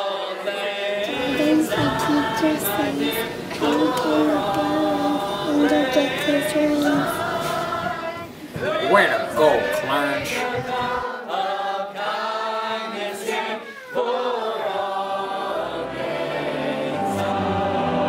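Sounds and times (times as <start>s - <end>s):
crowd singing together: 0.0s - 18.0s.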